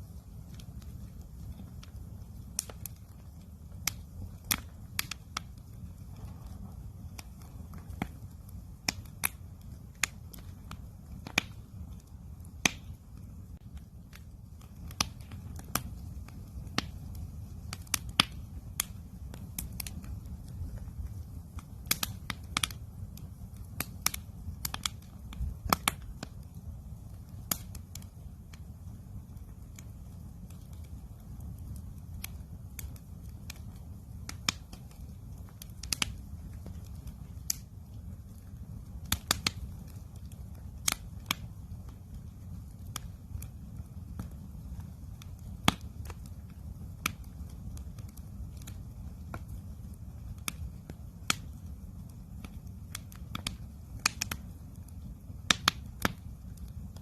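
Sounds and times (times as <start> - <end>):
campfire crackling and popping: 0.0 - 57.0
low fire rumble: 0.0 - 57.0.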